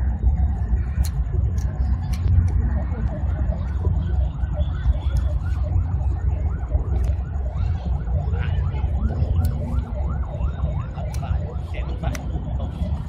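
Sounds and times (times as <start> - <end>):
wavering siren-like tone: 0.0 - 13.0.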